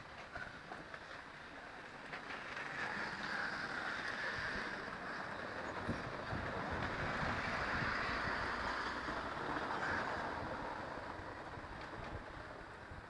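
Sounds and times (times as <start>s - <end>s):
distant traffic noise: 0.0s - 13.0s.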